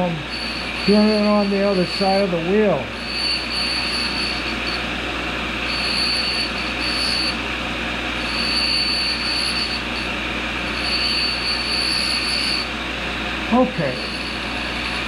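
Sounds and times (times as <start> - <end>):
grinding machine hum: 0.0 - 15.0
high thin grinding whine: 0.0 - 15.0.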